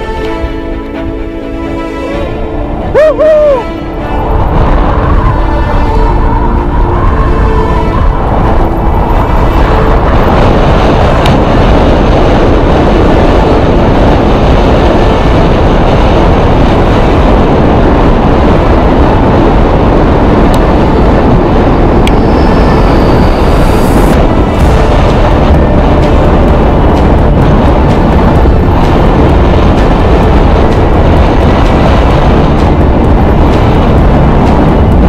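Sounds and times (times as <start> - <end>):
wind rushing on microphone: 0.0 - 35.0.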